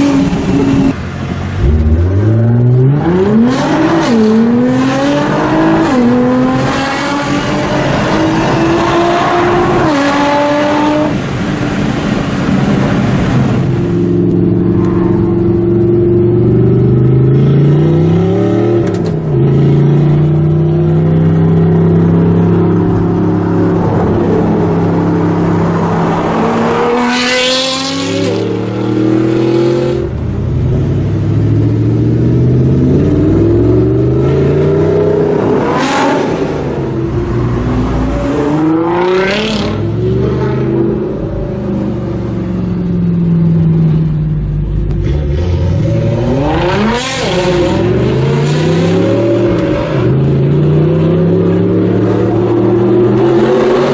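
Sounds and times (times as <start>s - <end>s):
car engine revving through gears: 0.0s - 11.4s, 14.3s - 30.2s, 31.4s - 41.5s, 44.8s - 53.9s.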